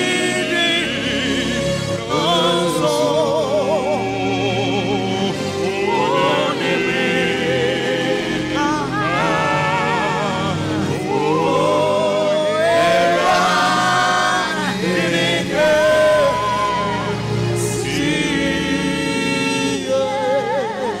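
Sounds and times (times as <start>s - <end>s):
backing vocals: 0.0s - 21.0s
instrumental accompaniment: 0.0s - 21.0s.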